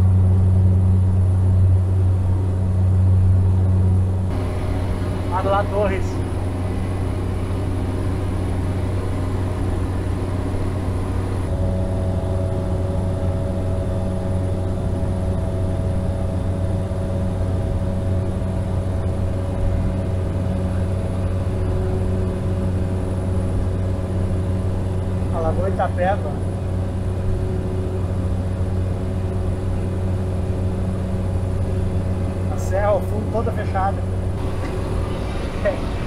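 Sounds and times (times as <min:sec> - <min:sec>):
higher steady hum: 0:00.0 - 0:36.0
propeller airplane cabin drone: 0:00.0 - 0:36.0.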